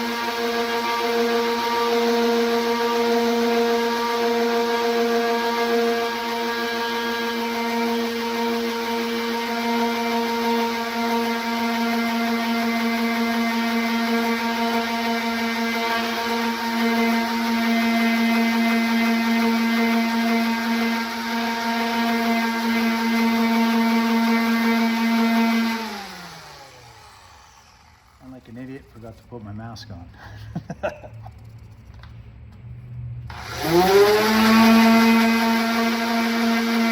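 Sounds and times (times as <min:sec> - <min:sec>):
orbital sander running: 0:00.0 - 0:29.6, 0:33.3 - 0:36.9.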